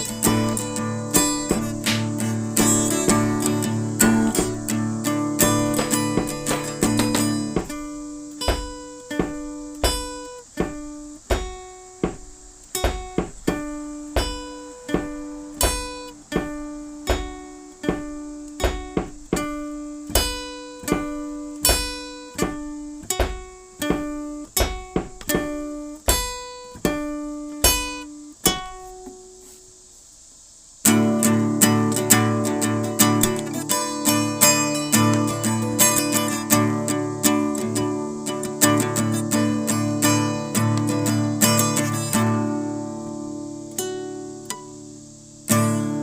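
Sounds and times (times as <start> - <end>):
acoustic guitar picking: 0.0 - 30.0, 30.7 - 46.0.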